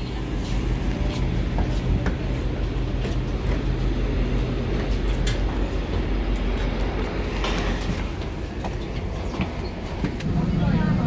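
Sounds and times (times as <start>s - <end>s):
train engine rumbling: 0.0s - 11.0s.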